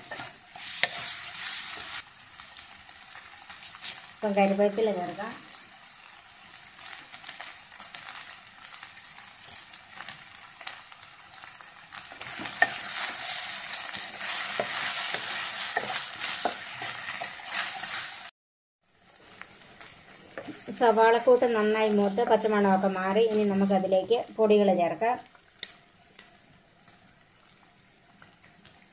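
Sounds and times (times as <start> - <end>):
onions sizzling in hot oil: 0.0 - 18.3, 18.9 - 28.9.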